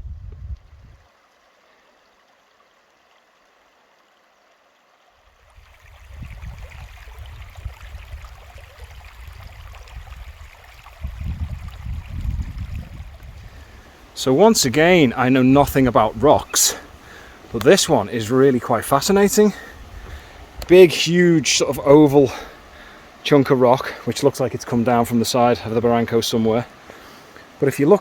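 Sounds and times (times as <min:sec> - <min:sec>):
stream running over rocks: 0:00.3 - 0:28.0.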